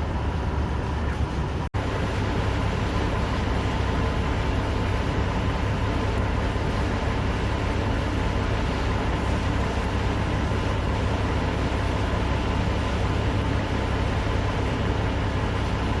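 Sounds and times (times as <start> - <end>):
low mechanical rumble with hiss: 0.0 - 16.0.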